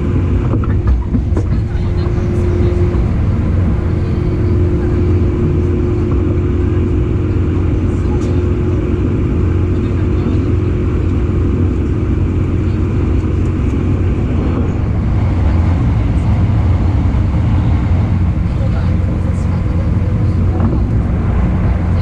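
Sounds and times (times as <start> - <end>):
train wheels rumbling on rails: 0.0 - 22.0
held train tone: 1.1 - 22.0.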